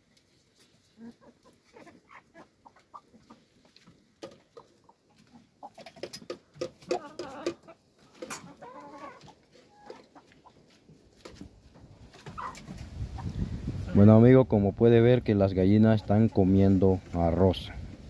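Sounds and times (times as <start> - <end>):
chickens clucking: 0.2 - 14.0, 15.6 - 17.9.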